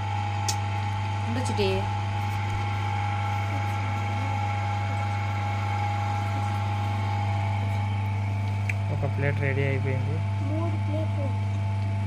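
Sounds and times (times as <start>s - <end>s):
potter's wheel humming: 0.0s - 12.0s.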